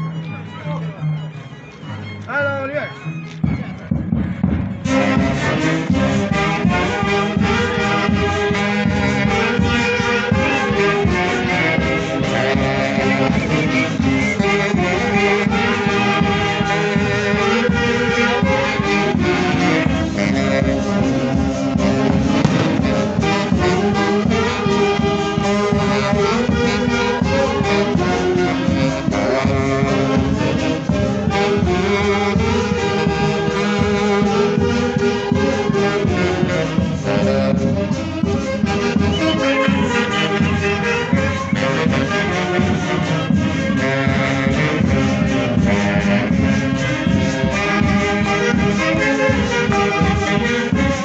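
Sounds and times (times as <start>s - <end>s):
live brass band playing: 0.0s - 51.0s.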